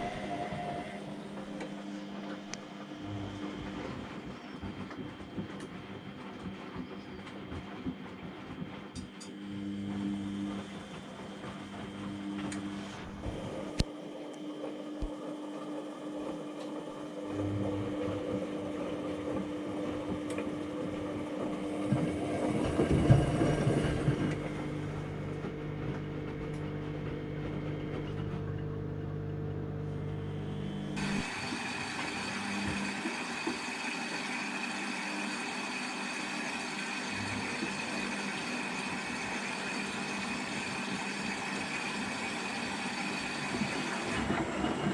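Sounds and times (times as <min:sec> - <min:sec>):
washing machine running: 0:00.0 - 0:44.9.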